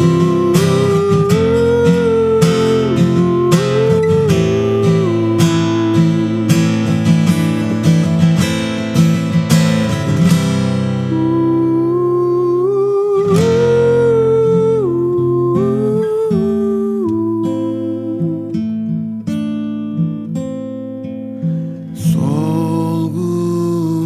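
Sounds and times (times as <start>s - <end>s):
acoustic guitar strumming: 0.0s - 24.0s
slow melody: 0.0s - 24.0s.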